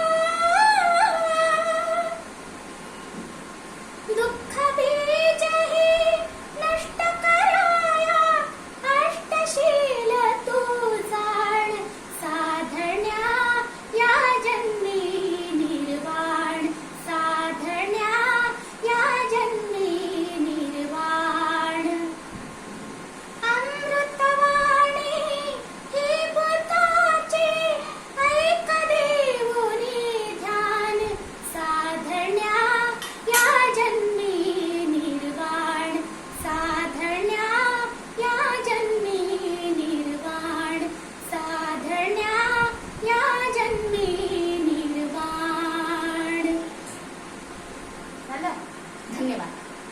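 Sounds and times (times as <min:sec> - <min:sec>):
girl singing unaccompanied: 0:00.0 - 0:02.4, 0:03.9 - 0:22.4, 0:23.2 - 0:47.1.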